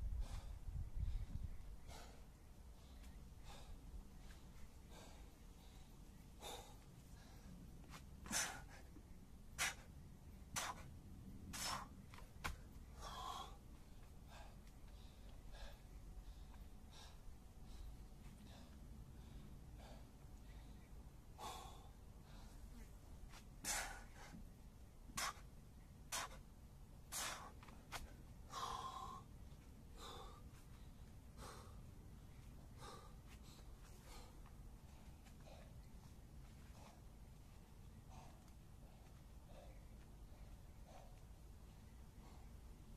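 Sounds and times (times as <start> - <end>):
man breathing hard: 0.0 - 10.0, 11.5 - 12.2, 12.8 - 23.0, 23.6 - 24.5, 27.1 - 42.9.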